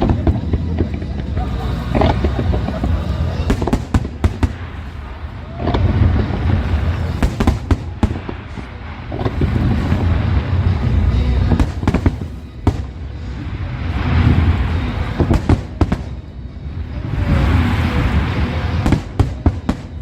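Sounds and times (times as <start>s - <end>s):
continuous low rumble: 0.0s - 20.0s
firework shell bursts and crackles: 0.0s - 20.0s.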